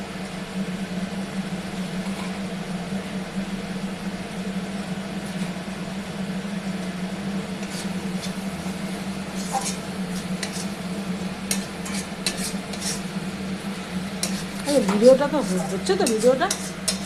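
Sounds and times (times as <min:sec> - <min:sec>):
steady low machine hum: 0:00.0 - 0:17.0.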